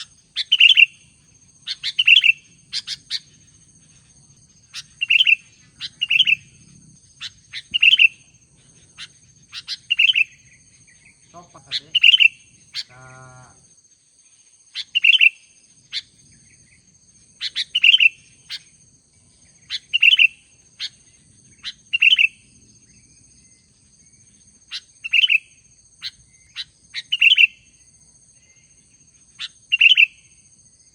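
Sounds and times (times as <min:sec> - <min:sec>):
bird chirping song: 0:00.0 - 0:30.9.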